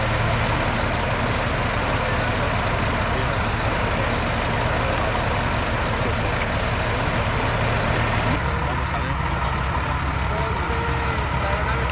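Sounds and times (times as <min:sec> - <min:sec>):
vehicle engine idling: 0:00.0 - 0:11.9.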